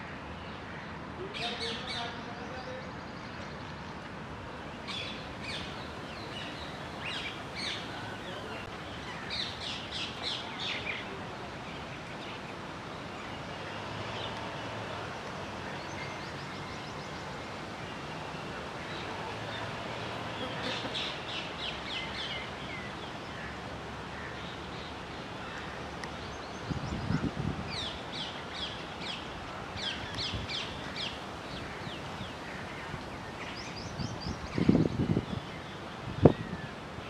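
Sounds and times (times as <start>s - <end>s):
outdoor background hiss: 0.0s - 37.0s.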